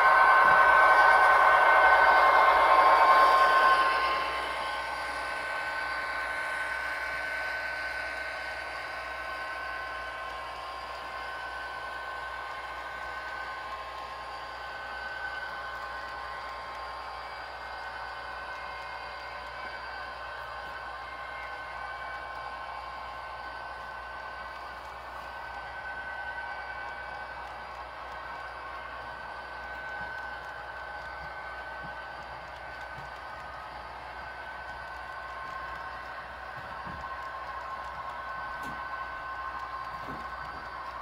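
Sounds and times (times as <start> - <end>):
held locomotive tones: 0.0 - 41.0
model diesel locomotive running: 0.0 - 41.0.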